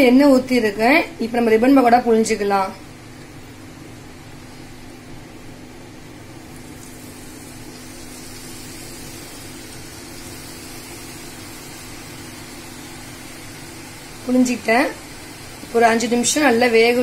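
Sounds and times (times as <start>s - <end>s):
steady low hum: 0.0s - 17.0s
oil sizzling and bubbling: 2.8s - 17.0s.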